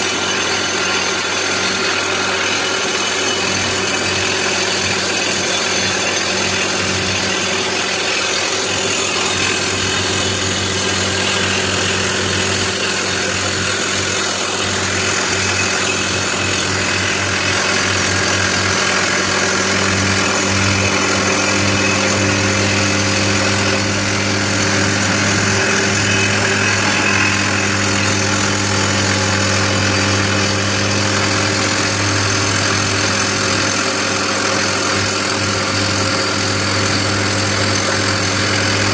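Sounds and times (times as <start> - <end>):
rock drill hammering: 0.0 - 38.9.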